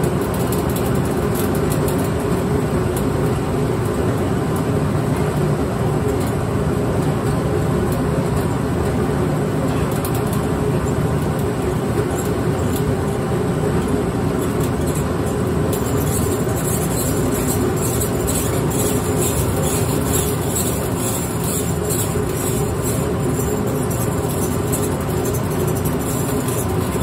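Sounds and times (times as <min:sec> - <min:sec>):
grain mill rumbling: 0:00.1 - 0:27.0.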